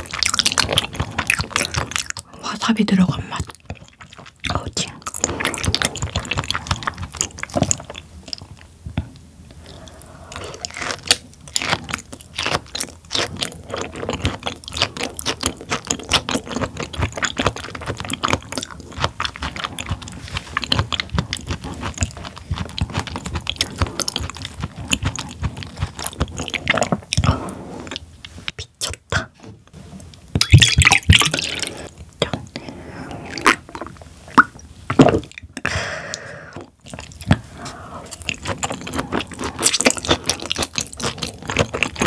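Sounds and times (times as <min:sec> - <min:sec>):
wet chewing with mouth clicks: 0:00.0 - 0:02.4, 0:03.1 - 0:29.3, 0:30.0 - 0:42.0.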